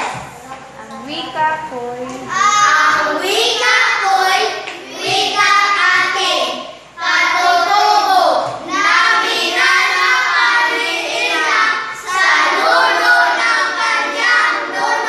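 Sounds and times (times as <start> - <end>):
children singing: 2.3 - 15.0.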